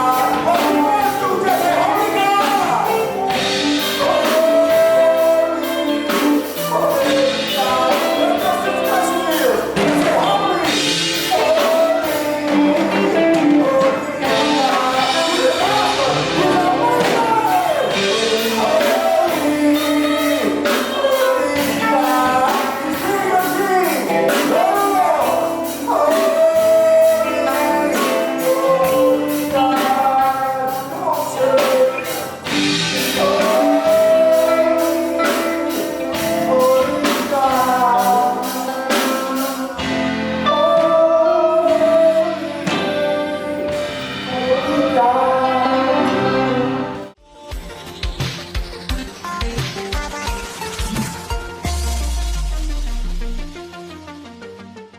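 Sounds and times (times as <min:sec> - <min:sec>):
voices singing gospel: 0:00.0 - 0:48.3
band with steady percussion beat: 0:00.0 - 0:53.5.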